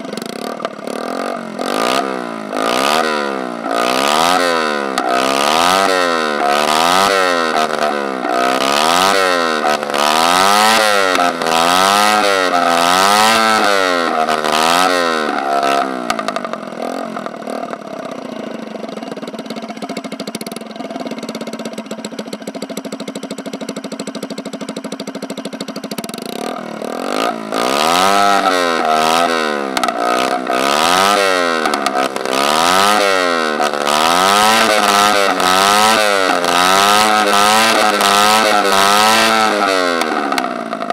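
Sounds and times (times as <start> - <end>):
scooter engine revving: 0.0 - 40.9.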